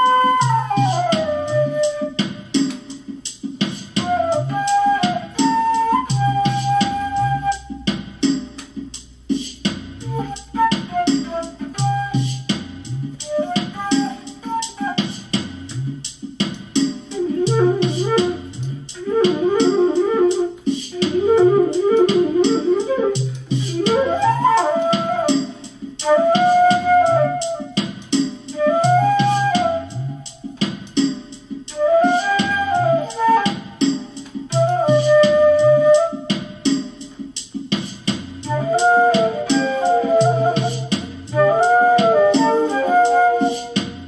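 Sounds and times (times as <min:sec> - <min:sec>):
flute playing a melody: 0:00.0 - 0:02.8, 0:04.0 - 0:08.0, 0:10.0 - 0:15.9, 0:17.1 - 0:30.6, 0:31.7 - 0:36.7, 0:38.4 - 0:44.0
backing track with beat and bass: 0:00.0 - 0:44.0.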